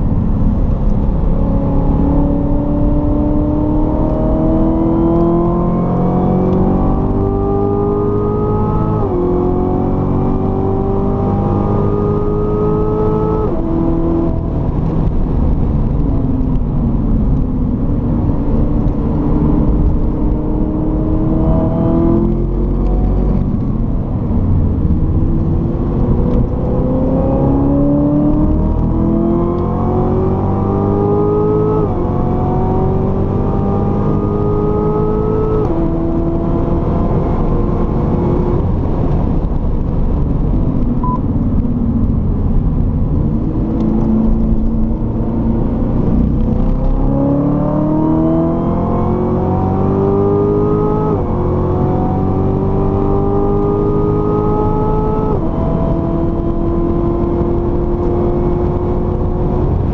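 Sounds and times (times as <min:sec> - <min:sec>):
car engine revving through gears: 0:00.3 - 0:59.9.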